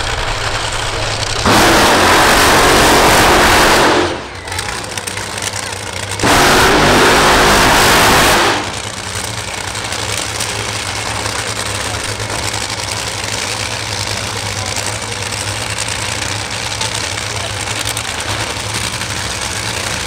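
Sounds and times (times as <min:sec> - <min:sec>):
dragster engine at full throttle: 0:00.0 - 0:20.0
engine rough idle: 0:00.0 - 0:20.0.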